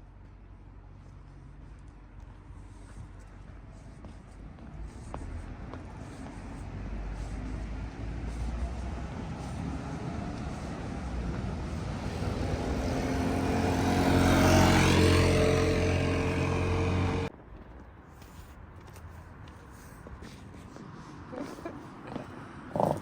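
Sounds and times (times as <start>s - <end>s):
vehicle engine and tyres passing: 0.1s - 23.0s.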